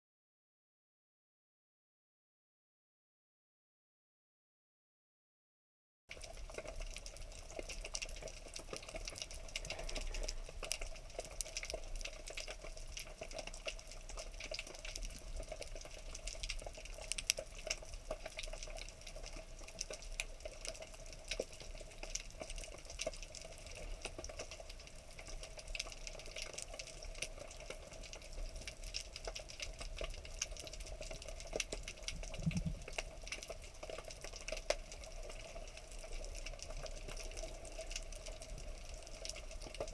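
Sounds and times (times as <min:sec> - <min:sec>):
fine crackle of tiny clicks: 0:06.1 - 0:39.9.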